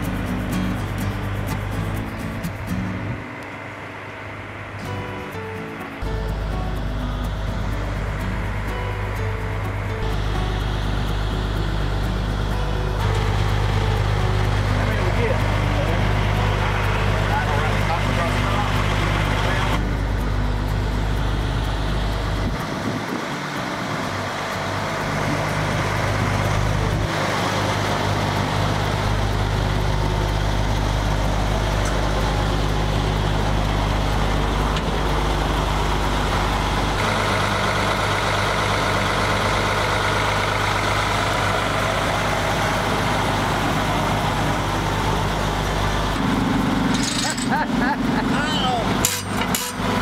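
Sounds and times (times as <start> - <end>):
diesel truck engine idling: 0.0 - 50.0.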